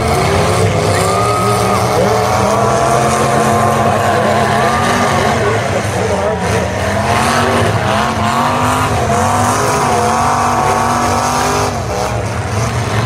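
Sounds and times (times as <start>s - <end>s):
car engines revving: 0.0s - 13.0s
cars ramming: 0.0s - 13.0s.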